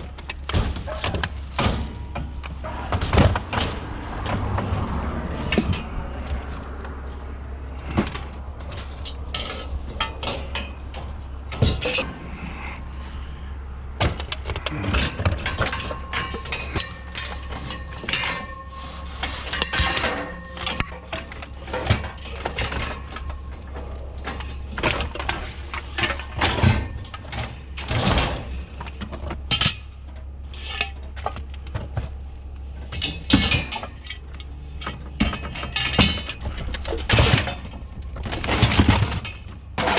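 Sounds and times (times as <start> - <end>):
scrap metal clanking: 0.0 - 39.9
steady low hum: 0.0 - 39.9.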